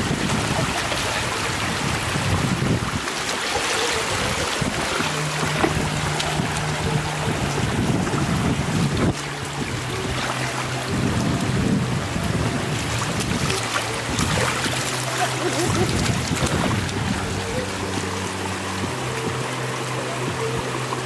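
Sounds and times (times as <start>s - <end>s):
wind buffeting microphone: 0.0s - 20.8s
water splashing around wading feet: 0.0s - 21.0s.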